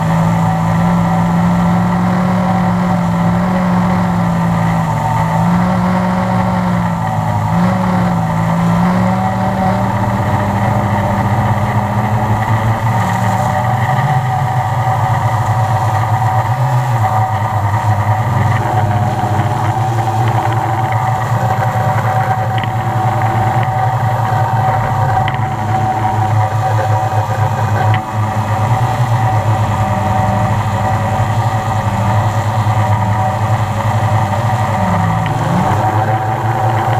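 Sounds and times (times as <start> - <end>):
drone propellers humming: 0.0 - 36.9.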